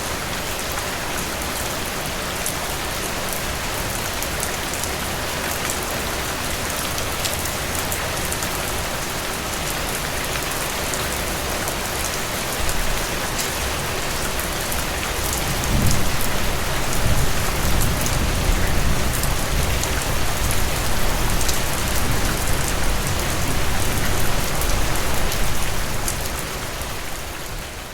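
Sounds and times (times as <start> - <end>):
heavy rain on a surface: 0.0 - 27.9.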